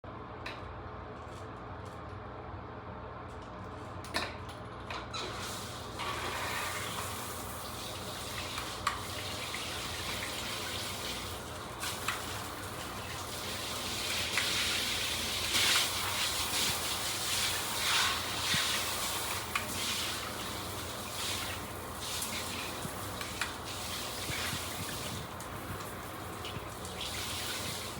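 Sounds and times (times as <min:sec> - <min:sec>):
shower head spraying water: 0:05.3 - 0:27.9.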